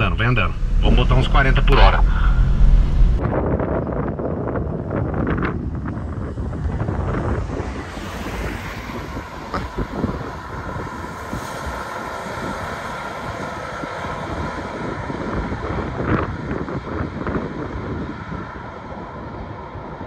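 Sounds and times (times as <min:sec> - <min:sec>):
cars driving away: 0:00.0 - 0:03.2, 0:06.2 - 0:20.0
wind buffeting microphone: 0:00.0 - 0:20.0.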